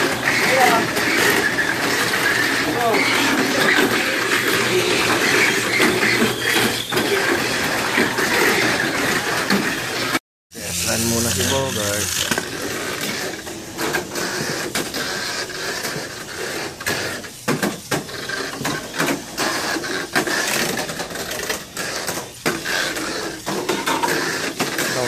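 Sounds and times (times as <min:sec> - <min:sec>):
toy car clattering on plastic track: 0:00.0 - 0:10.2, 0:10.8 - 0:25.0.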